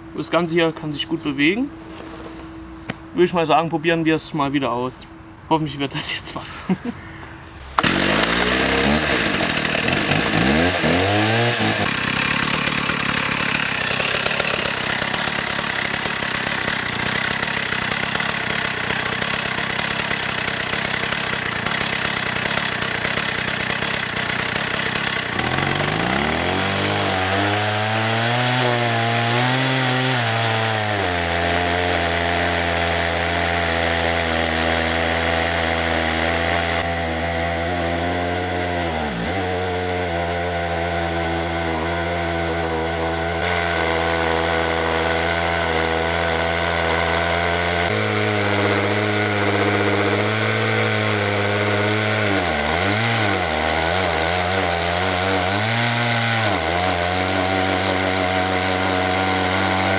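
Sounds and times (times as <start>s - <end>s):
chainsaw cutting through log: 7.8s - 59.9s.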